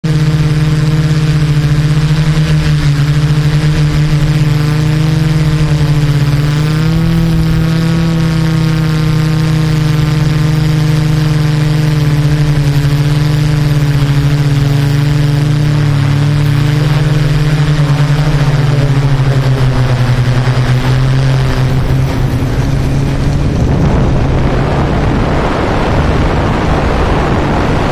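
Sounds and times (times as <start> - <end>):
engine running at low speed: 0.0 - 27.9.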